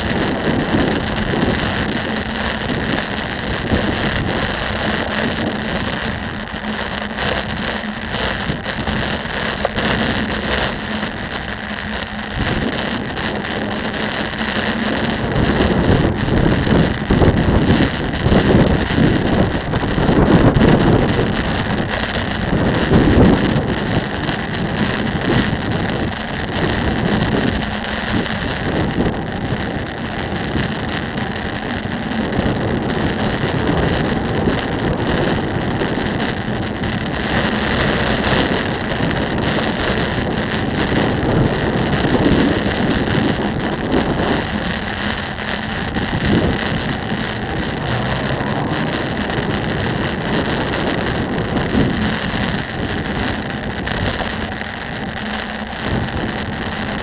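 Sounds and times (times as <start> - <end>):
bicycle road noise: 0.0 - 57.0
low wind buffeting: 0.0 - 57.0
wind noise on microphone: 0.0 - 57.0.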